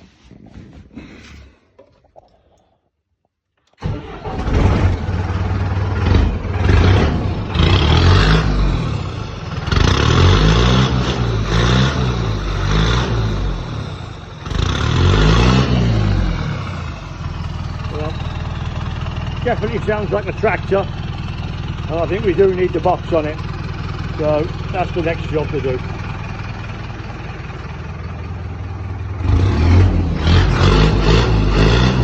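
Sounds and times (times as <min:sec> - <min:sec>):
diesel engine revving: 0:03.8 - 0:32.0.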